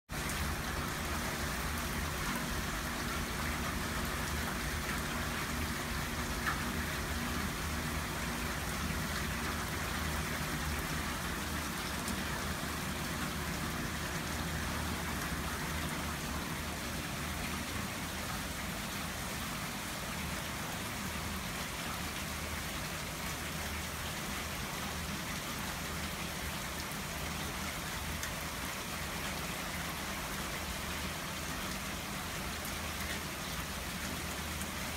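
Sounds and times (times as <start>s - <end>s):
rain on plants and concrete: 0.1s - 34.9s.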